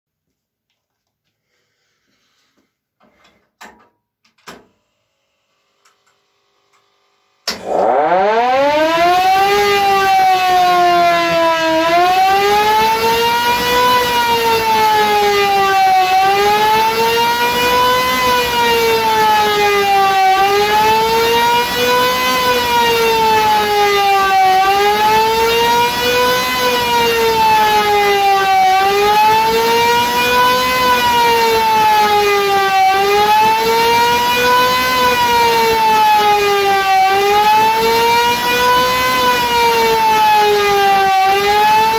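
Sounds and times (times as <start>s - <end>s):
civil defence siren wailing: 7.5s - 41.9s.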